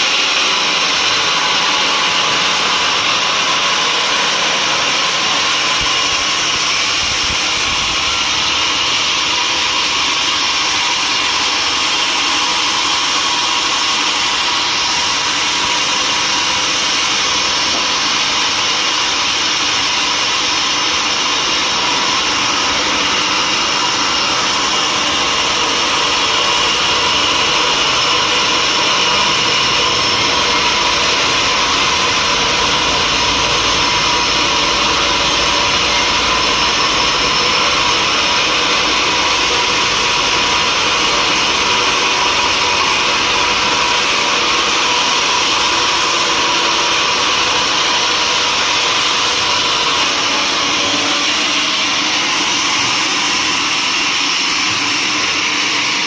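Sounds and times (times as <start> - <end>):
sawmill saw whining: 0.0 - 56.0.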